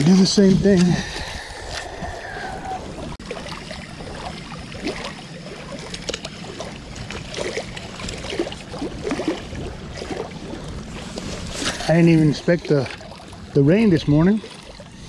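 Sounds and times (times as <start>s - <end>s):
low wind rumble: 0.0s - 15.0s
small waves lapping: 0.0s - 15.0s.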